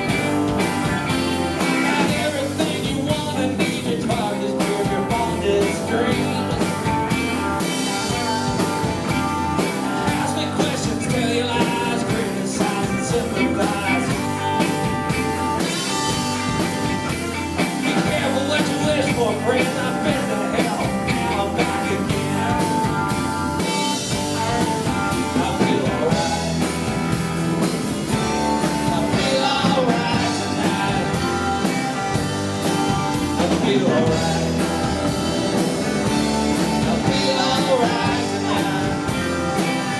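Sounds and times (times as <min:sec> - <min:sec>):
rock band playing live: 0:00.0 - 0:39.9
steady drum beat: 0:00.0 - 0:39.9.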